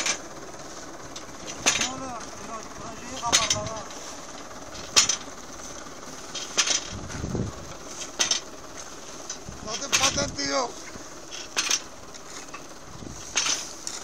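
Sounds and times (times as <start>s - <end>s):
metal machine clanking: 0.0s - 0.3s, 1.0s - 14.0s.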